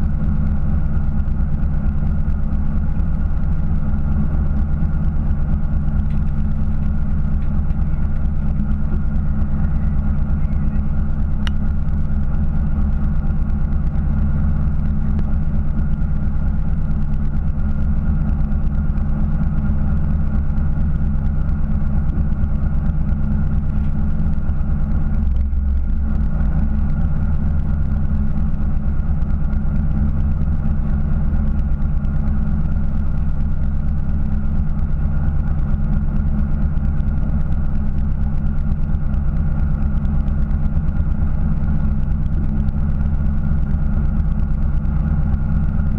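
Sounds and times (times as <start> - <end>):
boat engine idling: 0.0 - 45.9.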